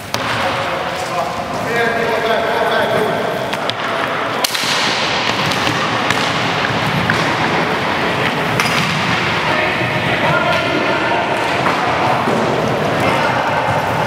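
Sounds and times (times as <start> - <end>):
hockey sticks clacking: 0.0 - 14.0
noise of play in sports hall: 0.0 - 14.0.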